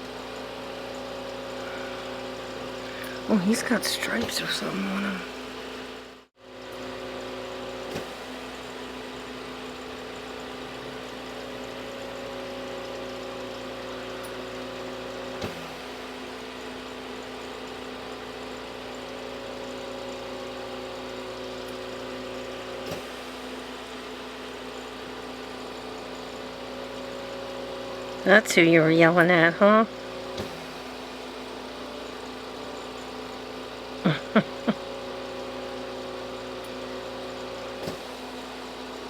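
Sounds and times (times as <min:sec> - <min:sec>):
mechanical hum over hiss: 0:00.0 - 0:39.0.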